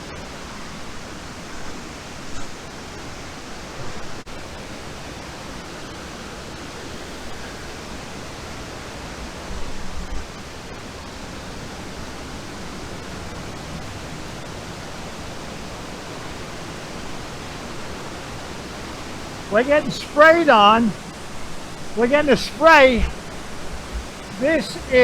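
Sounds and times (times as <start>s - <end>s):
waterfall rushing: 0.2s - 25.0s.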